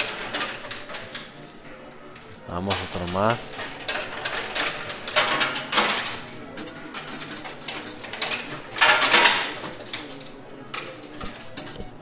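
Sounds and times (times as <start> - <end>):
coins clattering in machine: 0.0 - 12.0.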